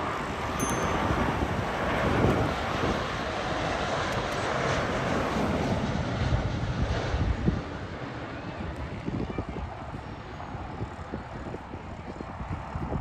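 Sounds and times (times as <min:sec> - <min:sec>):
jet airliner passing low: 0:00.0 - 0:13.0
low jet rumble: 0:00.0 - 0:13.0.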